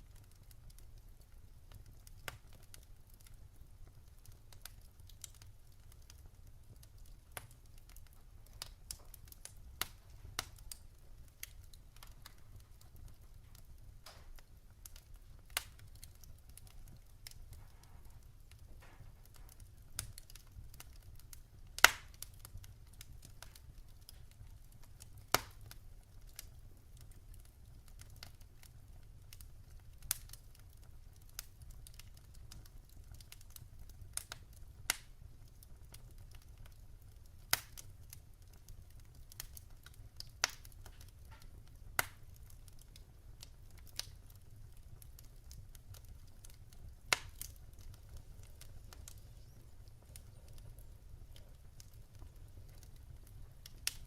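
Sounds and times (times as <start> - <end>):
log fire crackling and popping: 0.0 - 54.0.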